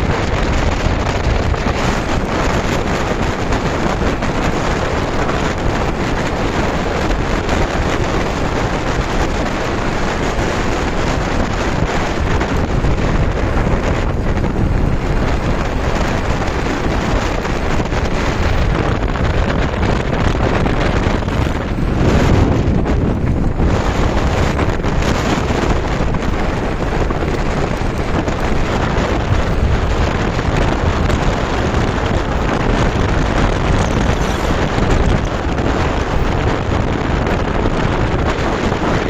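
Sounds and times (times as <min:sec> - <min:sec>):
vehicle noise: 0:00.0 - 0:39.0
wind rushing over microphone: 0:00.0 - 0:39.0.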